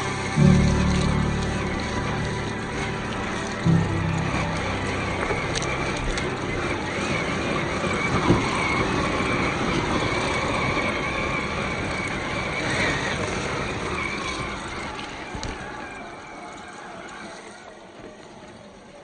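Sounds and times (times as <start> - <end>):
rough noisy background: 0.0 - 19.0
toy truck electric motor whining: 0.0 - 19.0.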